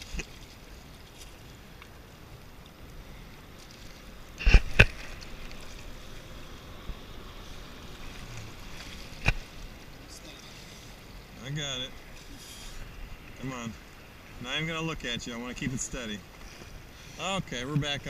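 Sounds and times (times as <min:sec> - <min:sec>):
water lapping: 0:00.0 - 0:18.0
wind: 0:00.0 - 0:18.0.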